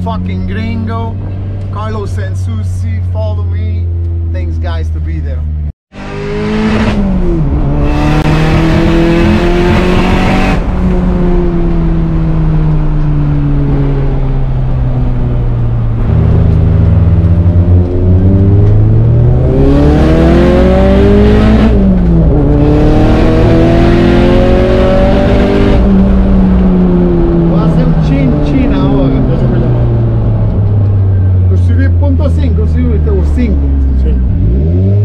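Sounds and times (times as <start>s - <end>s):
race car engine revving: 5.4s - 35.0s.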